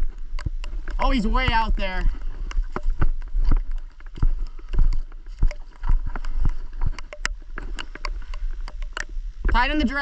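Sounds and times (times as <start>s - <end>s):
footsteps on rocks: 0.0s - 10.0s
steady low rumble: 0.0s - 10.0s.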